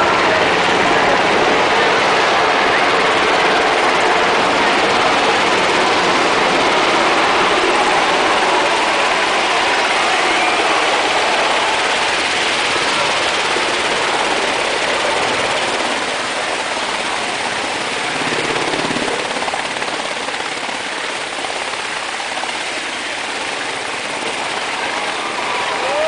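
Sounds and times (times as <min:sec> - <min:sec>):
helicopters flying over: 0:00.0 - 0:26.0.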